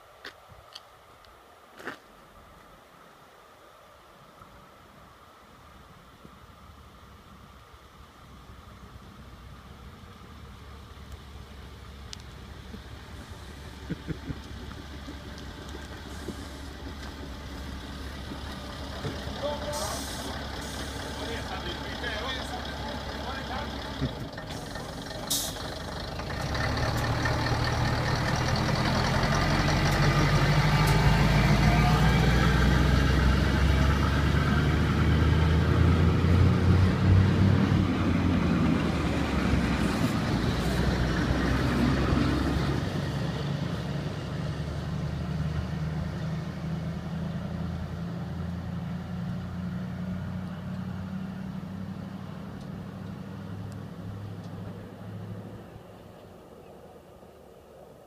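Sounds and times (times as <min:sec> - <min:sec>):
diesel train engines revving: 0:09.0 - 0:56.4.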